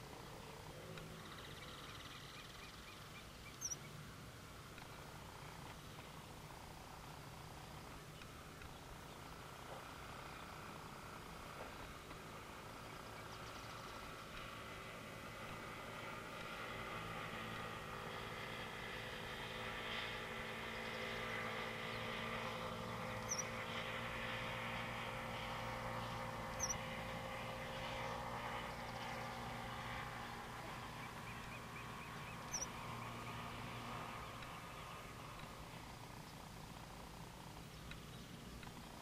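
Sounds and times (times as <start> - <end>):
low background hum: 0.0 - 39.0.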